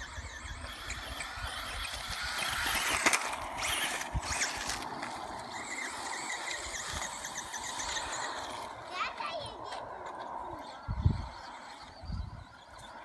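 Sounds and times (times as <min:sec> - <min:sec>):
toy car whining: 0:00.0 - 0:13.0.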